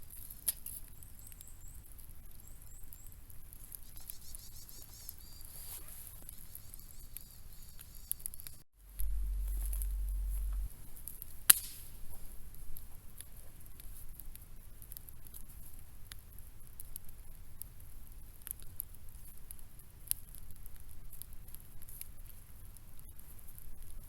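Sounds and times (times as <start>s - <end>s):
small clicks and crackles: 0.0s - 8.6s, 9.6s - 24.0s.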